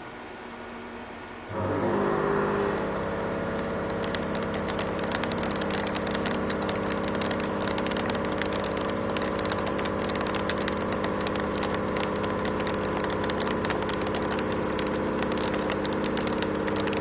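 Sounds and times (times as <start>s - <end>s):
machine hum: 0.0s - 17.0s
milling cutter crackle: 1.5s - 17.0s.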